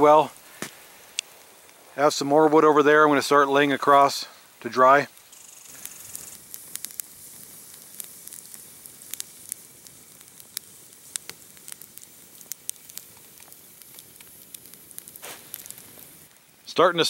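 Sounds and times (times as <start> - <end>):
campfire crackling and popping: 0.0 - 17.0
sizzling hiss: 0.0 - 17.0.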